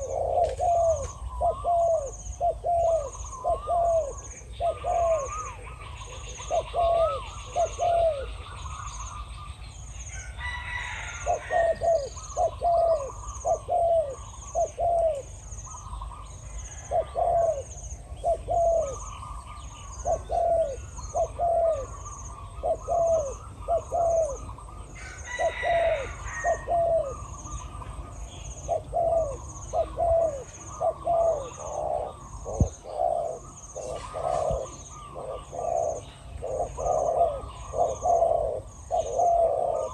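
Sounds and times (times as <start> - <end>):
doves cooing: 0.0 - 9.6, 10.2 - 39.9.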